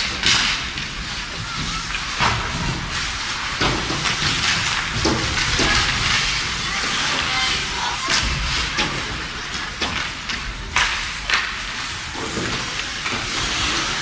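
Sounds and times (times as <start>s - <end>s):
hockey sticks and puck clacking: 0.0s - 14.0s
rink hum and scrape: 0.0s - 14.0s.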